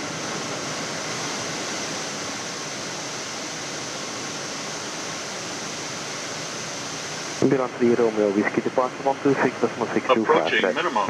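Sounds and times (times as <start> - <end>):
cockpit airflow hiss: 0.0 - 11.0.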